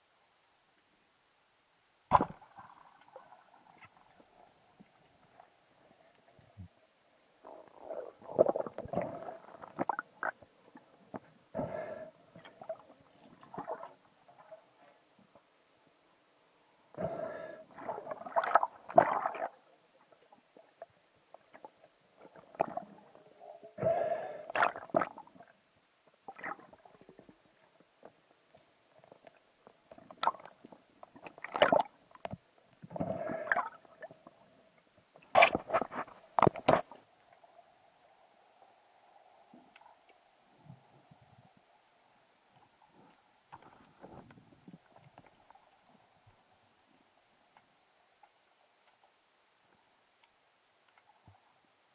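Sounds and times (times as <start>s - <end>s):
faint steady hum: 0.0s - 51.9s
underwater scraping and rustling: 2.1s - 49.1s.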